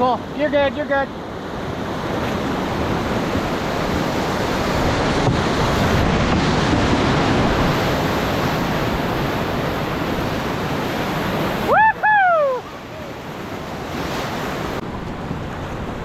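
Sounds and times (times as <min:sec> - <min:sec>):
rushing whitewater roar: 0:00.0 - 0:16.0.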